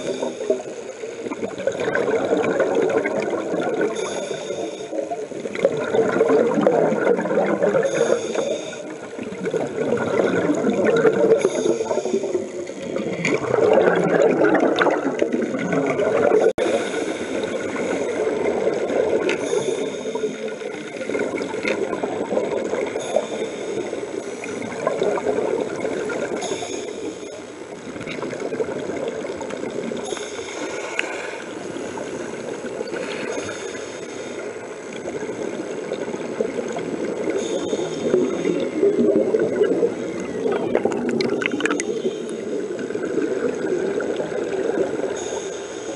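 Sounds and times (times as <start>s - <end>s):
underwater bubbles burbling: 0.0s - 45.9s.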